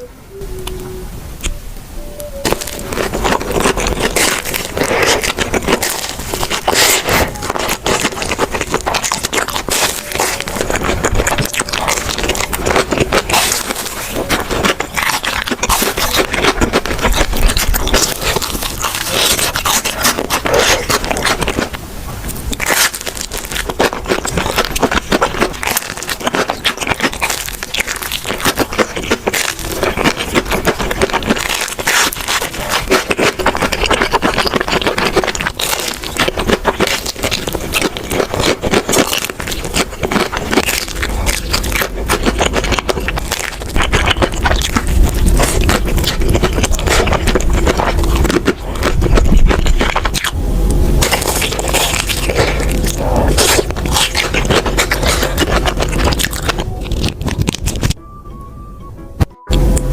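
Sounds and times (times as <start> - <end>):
crunching and chewing fried food: 2.2 - 58.0.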